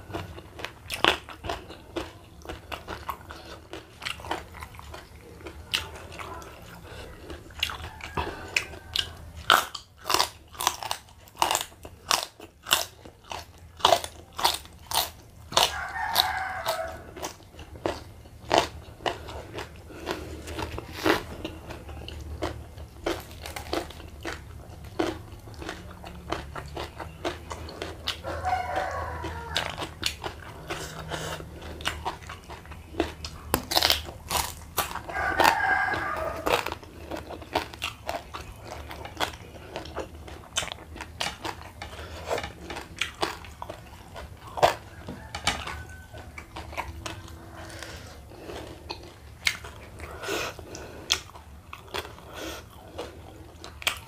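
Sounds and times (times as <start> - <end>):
chewing: 0.0 - 54.0
crunching raw vegetable: 0.0 - 54.0.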